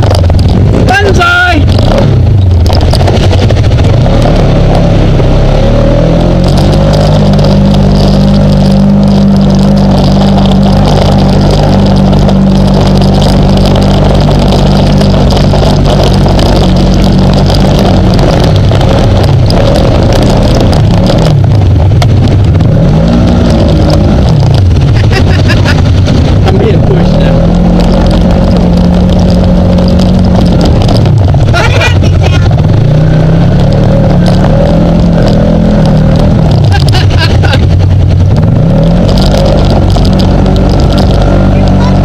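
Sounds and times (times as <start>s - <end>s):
quad bike engine revving: 0.0s - 42.0s
water splashing around wheels: 0.0s - 42.0s.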